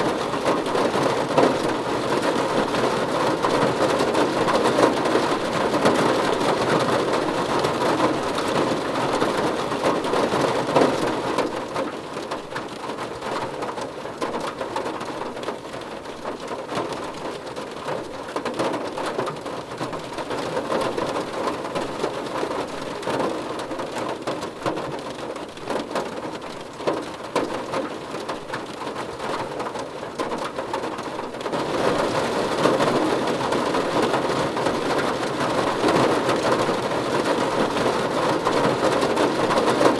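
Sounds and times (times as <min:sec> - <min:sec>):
steady rain splashing: 0:00.0 - 0:39.9.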